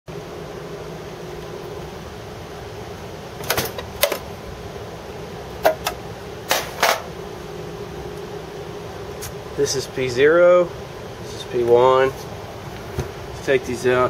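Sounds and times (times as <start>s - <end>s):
steady hum: 0.1s - 14.0s.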